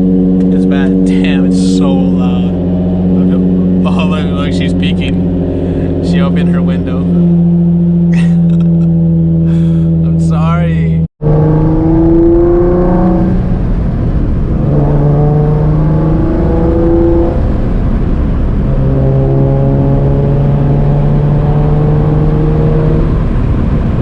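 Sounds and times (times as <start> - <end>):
car engine revving while driving: 0.0 - 24.0.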